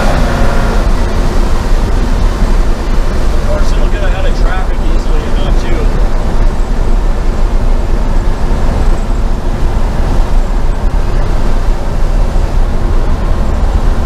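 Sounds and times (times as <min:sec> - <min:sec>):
road noise: 0:00.0 - 0:14.0
truck engine rumbling: 0:00.0 - 0:14.0.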